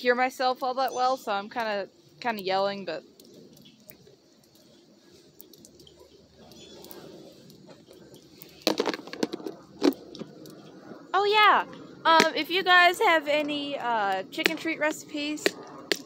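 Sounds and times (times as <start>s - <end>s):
rain pattering and dripping: 0.0s - 16.0s.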